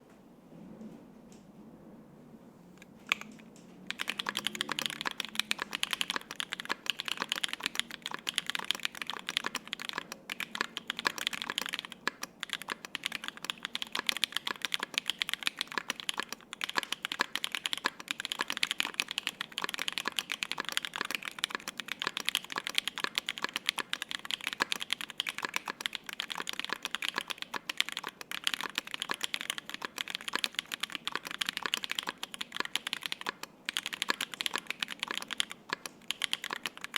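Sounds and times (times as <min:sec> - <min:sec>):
mechanical keyboard typing clacks: 0:03.1 - 0:36.9.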